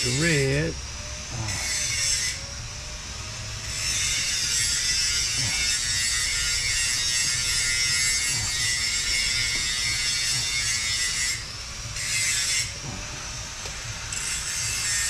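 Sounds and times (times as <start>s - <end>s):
power grinder grinding: 0.0s - 15.0s.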